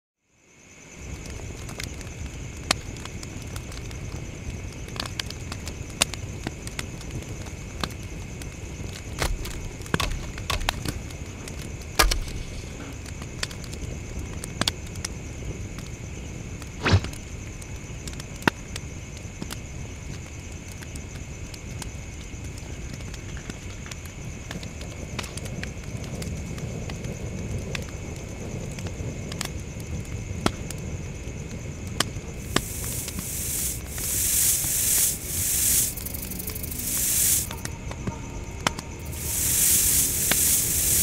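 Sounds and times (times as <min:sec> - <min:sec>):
crickets chirping: 0:00.2 - 0:41.0
campfire crackling and popping: 0:01.0 - 0:41.0.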